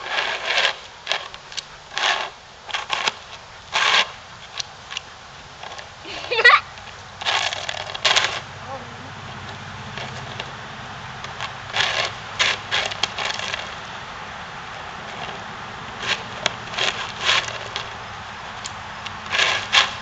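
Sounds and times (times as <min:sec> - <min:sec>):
frisbee scraping on asphalt: 0:00.0 - 0:20.0
steady low hum: 0:00.0 - 0:20.0.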